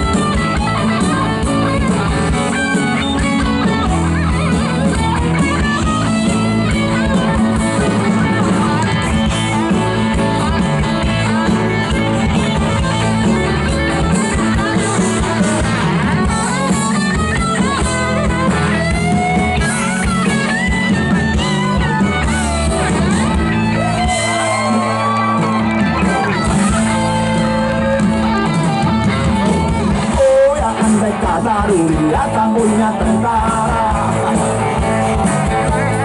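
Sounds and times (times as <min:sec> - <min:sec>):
electric guitar: 0:00.0 - 0:36.0
live rock band playing: 0:00.0 - 0:36.0.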